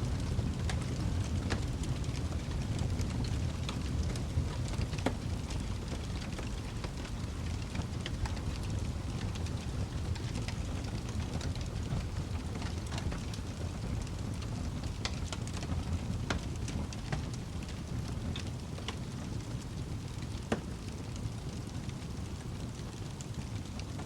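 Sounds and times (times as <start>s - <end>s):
burning wood popping: 0.0s - 24.0s
fire crackling in fireplace: 0.0s - 24.0s.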